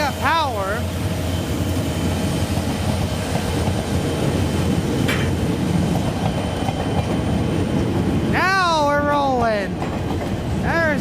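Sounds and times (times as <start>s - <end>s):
diesel locomotive engine rumble: 0.0s - 11.0s
wheels on rail: 0.0s - 11.0s.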